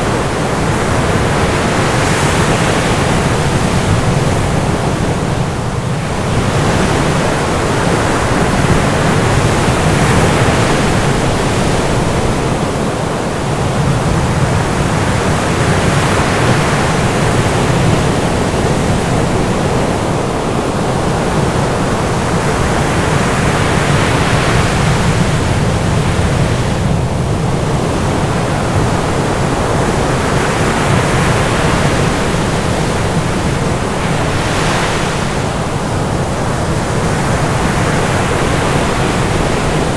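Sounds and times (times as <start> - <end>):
loud steady rushing noise: 0.0 - 39.9.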